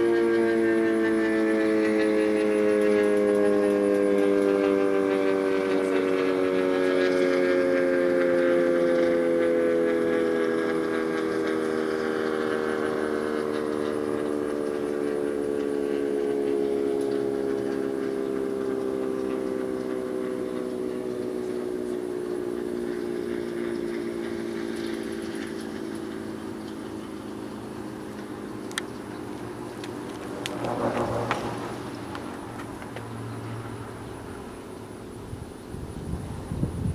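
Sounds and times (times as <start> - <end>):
warning siren winding down: 0.0 - 36.6.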